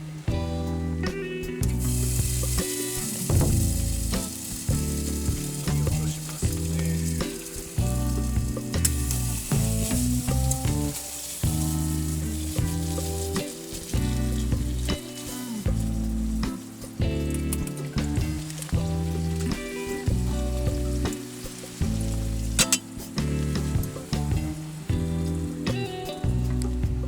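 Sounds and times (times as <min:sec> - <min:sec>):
background music with low chords: 0:00.0 - 0:27.0
high crackling hiss: 0:00.0 - 0:27.0.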